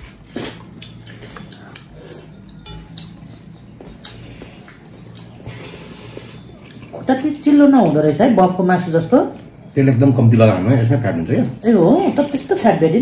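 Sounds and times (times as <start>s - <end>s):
wet chewing and smacking: 0.0s - 10.6s
low steady hum: 0.0s - 13.0s.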